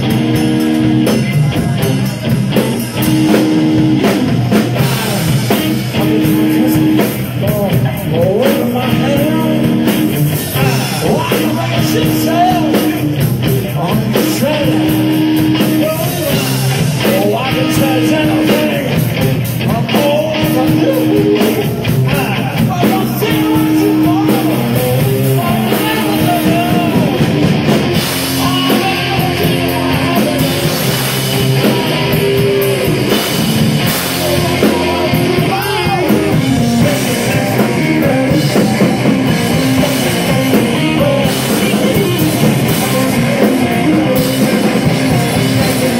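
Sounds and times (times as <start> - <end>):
electric bass: 0.0 - 45.9
electric guitar: 0.0 - 45.9.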